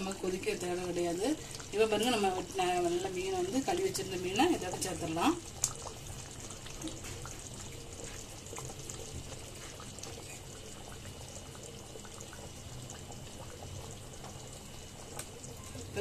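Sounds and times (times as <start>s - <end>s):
curry bubbling: 0.0s - 16.0s.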